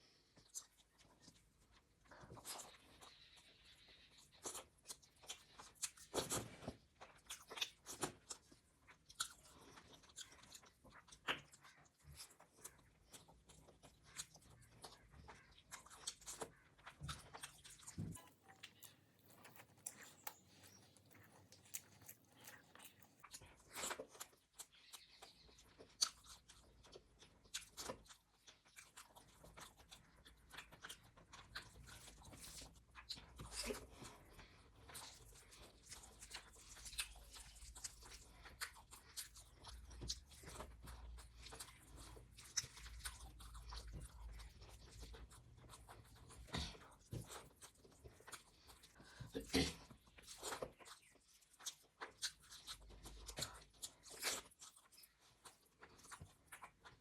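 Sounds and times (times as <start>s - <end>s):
person chewing crunchy food: 4.1s - 57.0s.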